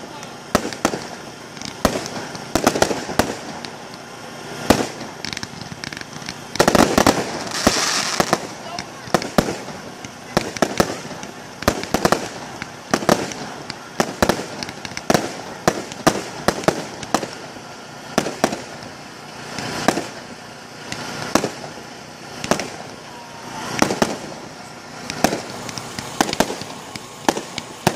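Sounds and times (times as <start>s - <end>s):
firework shells bursting: 0.0s - 27.9s.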